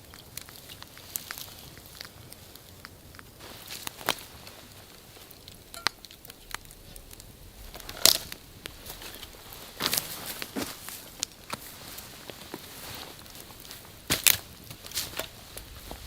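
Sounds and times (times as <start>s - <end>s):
dry wood cracking and snapping: 0.0s - 16.0s.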